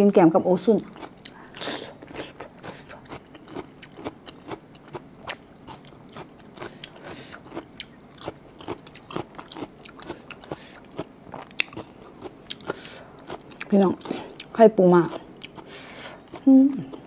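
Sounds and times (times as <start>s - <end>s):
close chewing: 0.8s - 17.0s.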